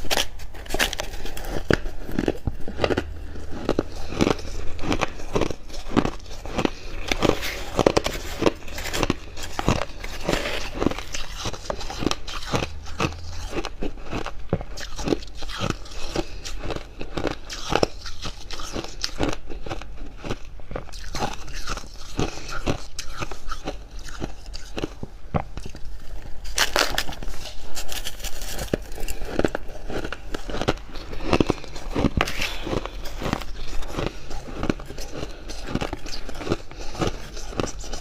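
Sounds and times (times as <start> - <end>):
chewing crunchy frost: 0.0 - 38.0.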